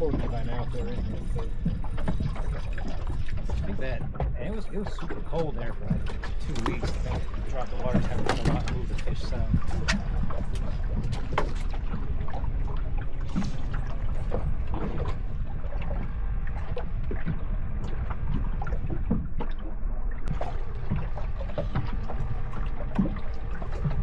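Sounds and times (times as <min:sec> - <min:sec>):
steady low rumble: 0:00.0 - 0:24.0
water lapping against boat hull: 0:00.0 - 0:24.0.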